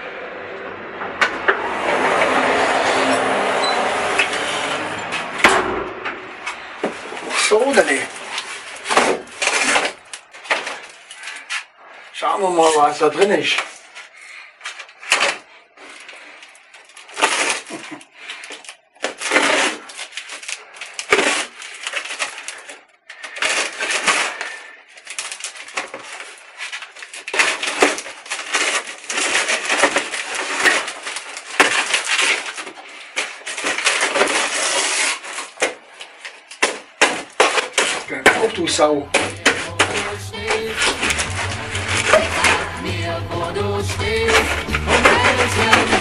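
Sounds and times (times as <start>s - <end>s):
cardboard scraping and ripping: 6.2s - 46.0s.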